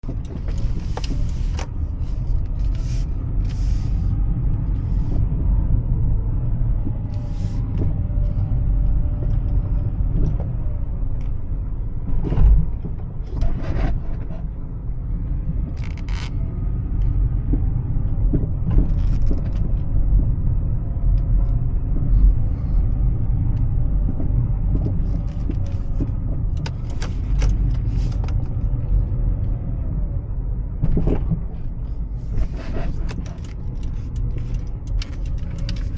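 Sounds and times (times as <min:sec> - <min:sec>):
car engine and tyre rumble: 0:00.0 - 0:35.9.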